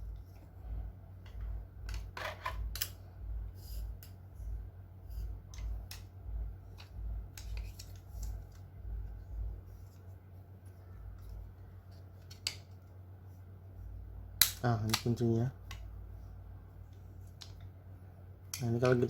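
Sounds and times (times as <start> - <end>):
low pulsing hum: 0.0 - 19.0.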